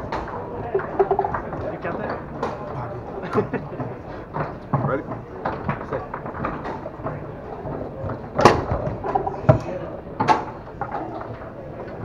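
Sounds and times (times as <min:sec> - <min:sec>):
foosball ball clacks: 0:00.0 - 0:02.9, 0:03.7 - 0:12.0.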